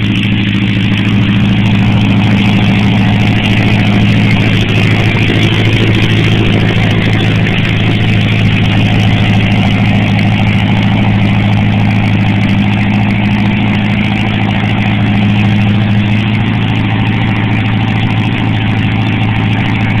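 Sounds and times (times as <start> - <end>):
aircraft engine droning: 0.0 - 20.0.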